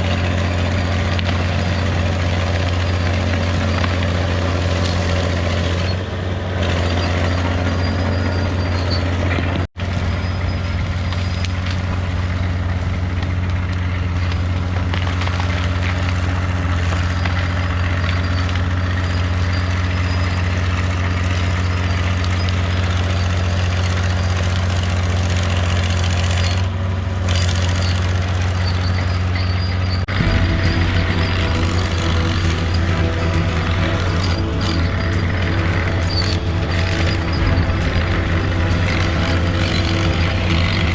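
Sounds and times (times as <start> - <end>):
bulldozer diesel engine droning: 0.0 - 40.9.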